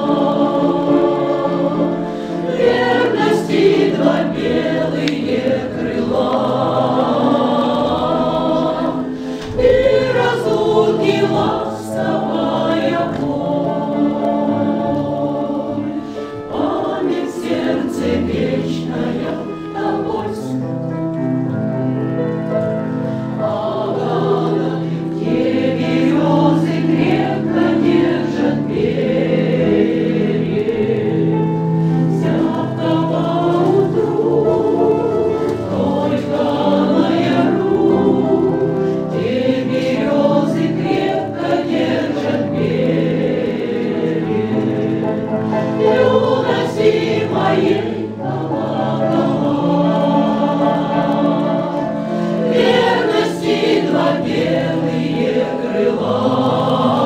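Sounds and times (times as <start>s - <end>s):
mixed choir singing: 0.0s - 21.3s, 21.9s - 57.0s.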